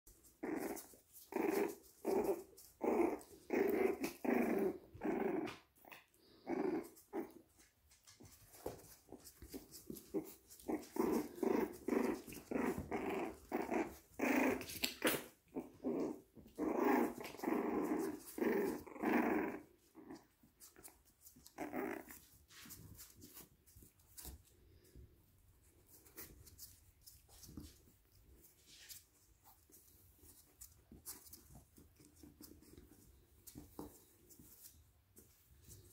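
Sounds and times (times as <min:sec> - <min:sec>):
puppies growling in play: 0:00.1 - 0:35.9.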